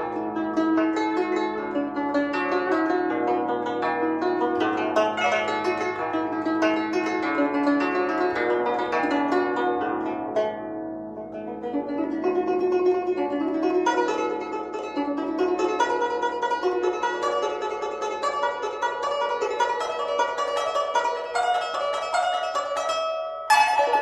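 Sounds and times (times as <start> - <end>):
plucked zither melody: 0.0 - 24.0.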